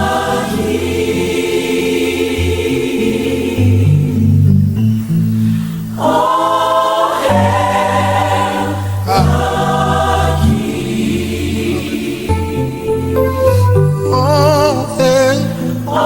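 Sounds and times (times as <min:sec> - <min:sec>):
keyboard and bass accompaniment: 0:00.0 - 0:06.6, 0:07.4 - 0:16.0
gospel choir singing: 0:00.0 - 0:16.0.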